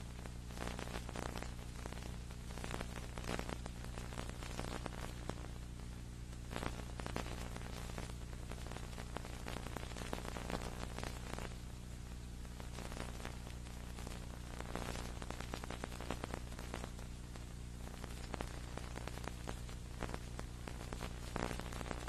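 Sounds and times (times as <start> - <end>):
crackling static: 0.0 - 22.0
electrical hum: 0.0 - 22.0.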